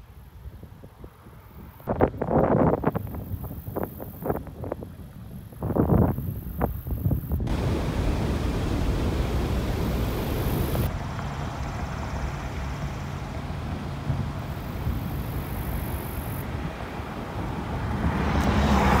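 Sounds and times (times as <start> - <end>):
wind rumbling on microphone: 0.0 - 12.0, 13.4 - 19.0.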